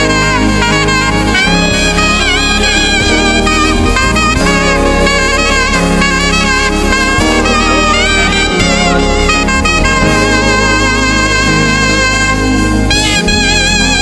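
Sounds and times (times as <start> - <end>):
gospel band playing: 0.0 - 14.0
saxophone melody: 0.0 - 14.0.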